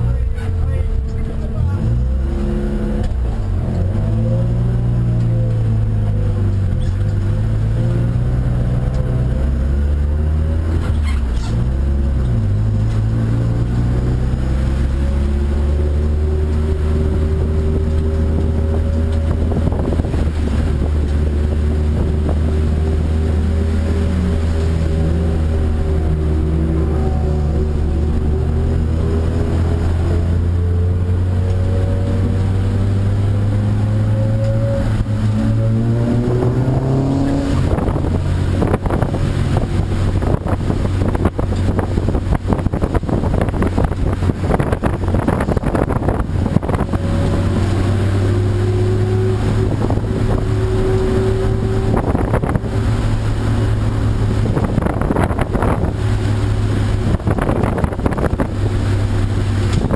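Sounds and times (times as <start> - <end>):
race car engine revving: 0.0 - 59.9
wind noise on microphone: 1.8 - 59.9.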